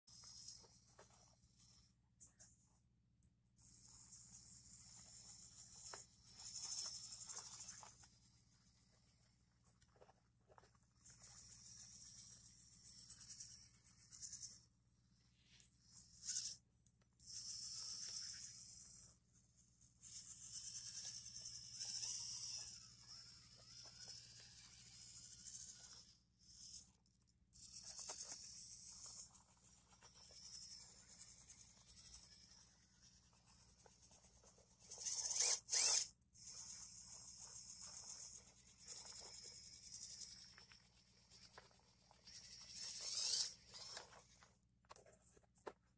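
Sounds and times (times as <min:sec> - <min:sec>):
rc car motor whining: 0:00.1 - 0:02.0, 0:03.6 - 0:09.2, 0:10.8 - 0:45.4.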